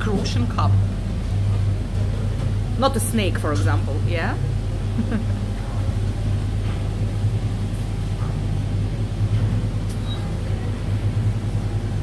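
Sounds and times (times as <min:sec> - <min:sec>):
kitchen equipment droning hum: 0:00.0 - 0:12.0.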